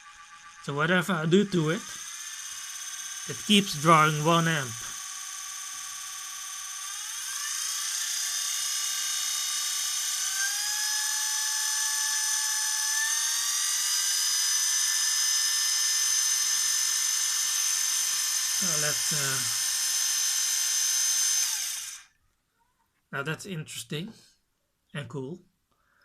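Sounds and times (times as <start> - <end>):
vacuum cleaner motor whining: 0.0 - 22.0.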